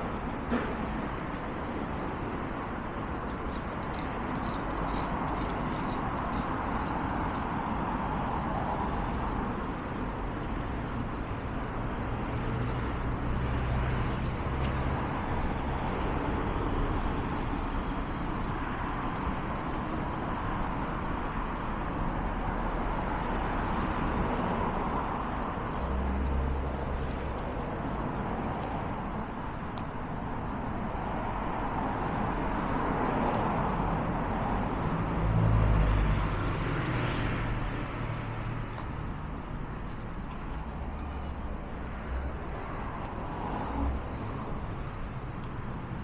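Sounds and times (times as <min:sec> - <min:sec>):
city street traffic: 0:00.0 - 0:46.0.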